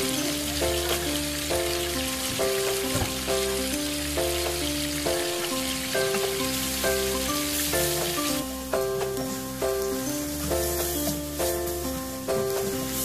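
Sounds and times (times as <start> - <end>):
background music with repeating melody: 0.0 - 13.0
oil sizzling in a pan: 0.0 - 13.0.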